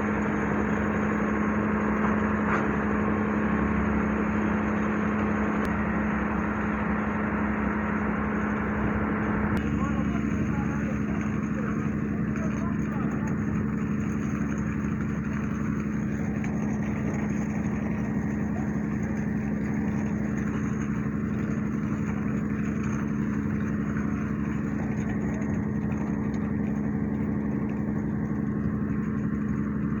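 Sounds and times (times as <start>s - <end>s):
engine humming steadily: 0.0s - 30.0s.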